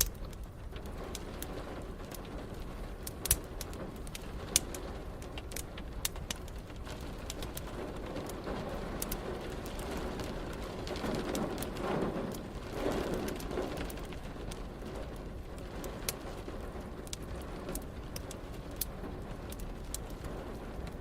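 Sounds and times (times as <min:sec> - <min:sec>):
rain hissing: 0:00.0 - 0:21.0
thunder rumbling: 0:00.0 - 0:21.0
wood fire crackling: 0:00.0 - 0:21.0.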